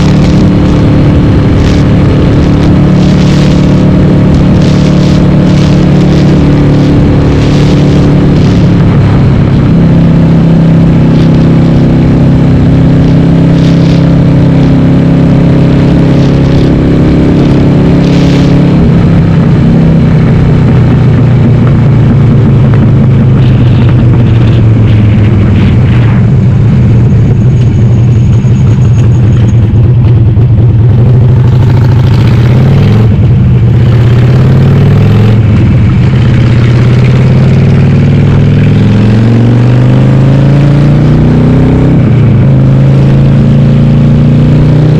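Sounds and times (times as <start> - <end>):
loud motorcycle engine: 0.0 - 44.9.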